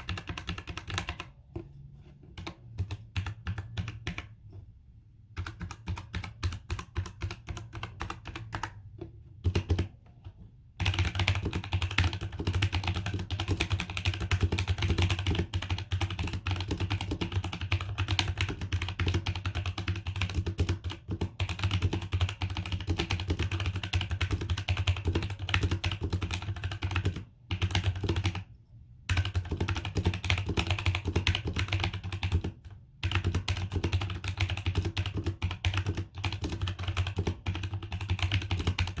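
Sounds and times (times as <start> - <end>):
mechanical keyboard typing: 0.0 - 1.6, 2.3 - 4.5, 5.2 - 39.0.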